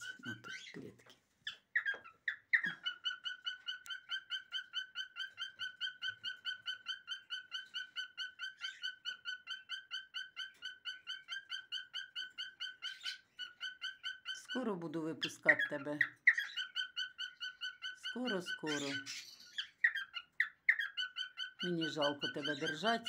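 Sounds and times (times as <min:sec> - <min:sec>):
cockatiel chirping: 0:00.0 - 0:23.0.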